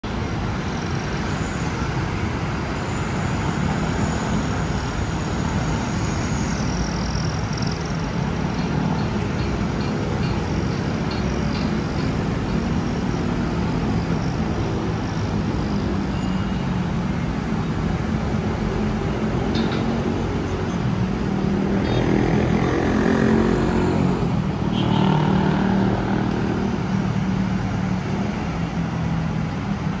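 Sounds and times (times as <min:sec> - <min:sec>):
road traffic hum: 0:00.0 - 0:30.0.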